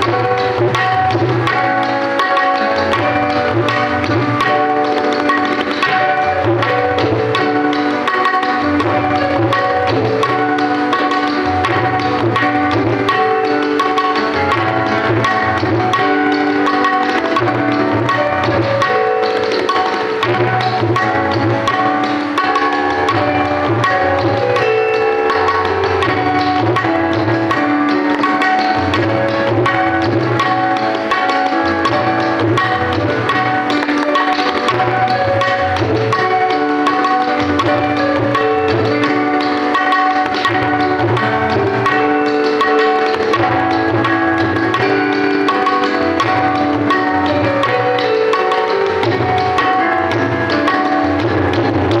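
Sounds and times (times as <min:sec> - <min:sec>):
held note melody: 0:00.0 - 0:52.0
tabla strokes: 0:00.0 - 0:52.0.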